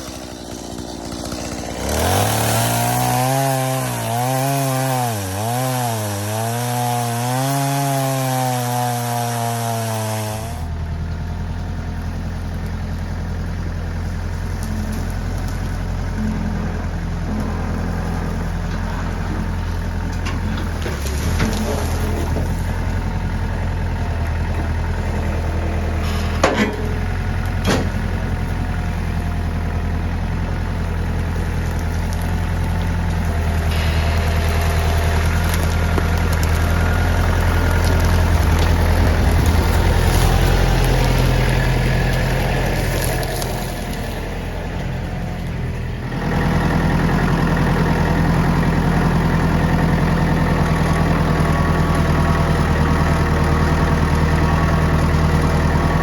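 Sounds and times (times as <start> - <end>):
engine idling: 10.6 - 56.0.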